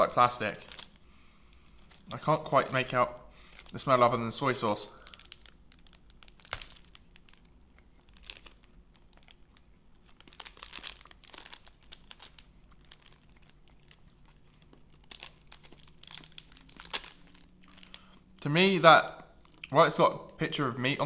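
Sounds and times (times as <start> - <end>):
plastic sachet crinkling: 0.0 - 20.8.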